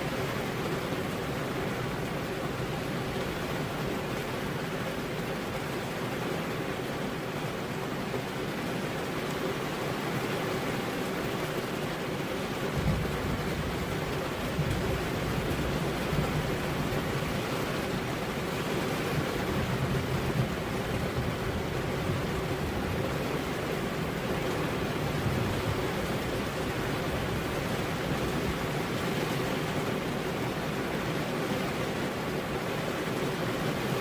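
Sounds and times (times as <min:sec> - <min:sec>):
steady rain hissing: 0:00.0 - 0:34.0.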